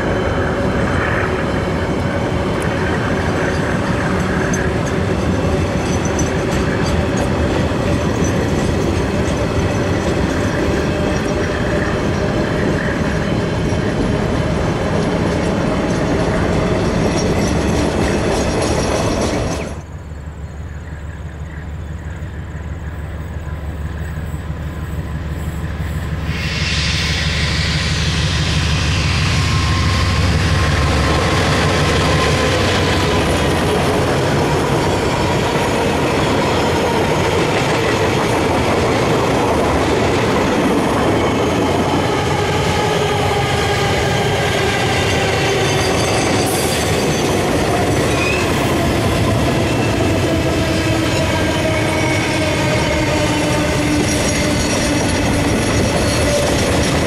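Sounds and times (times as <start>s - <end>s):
train wheels clattering: 0.0s - 19.9s, 23.8s - 57.0s
diesel locomotive engine drone: 0.0s - 57.0s.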